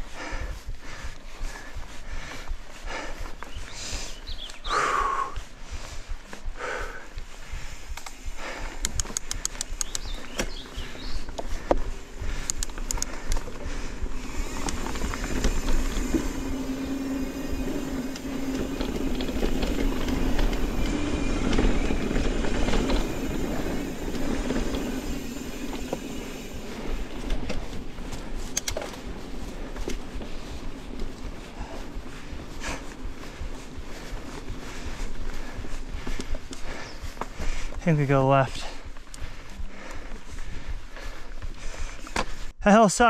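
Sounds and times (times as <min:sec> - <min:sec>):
bike rattling and clicking: 0:00.0 - 0:42.5
bike tyres rumbling on dirt trail: 0:00.0 - 0:42.6.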